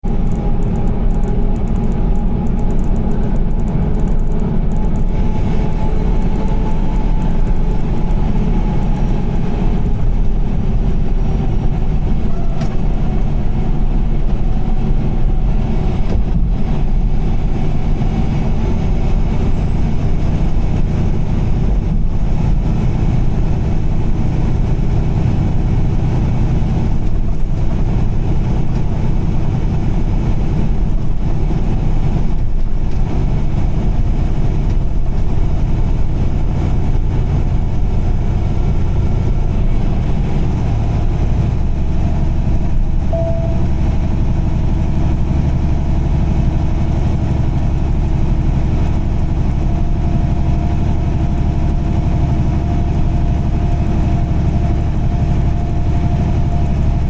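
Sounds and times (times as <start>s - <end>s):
car engine cruising: 0.0s - 57.0s.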